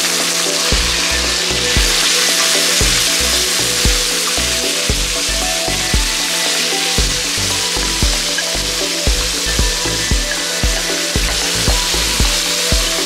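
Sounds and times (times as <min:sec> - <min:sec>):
background music with beat: 0:00.0 - 0:13.0
food sizzling in hot oil: 0:00.0 - 0:13.0.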